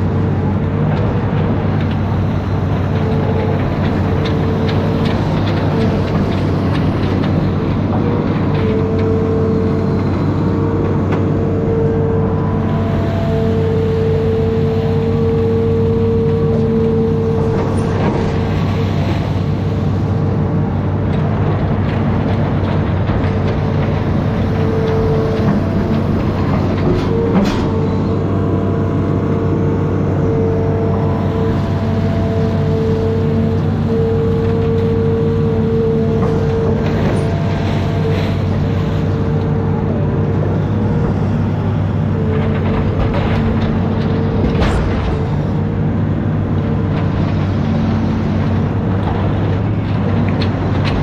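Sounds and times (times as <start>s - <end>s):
diesel engine running: 0.0s - 51.0s
whining tone: 0.0s - 51.0s.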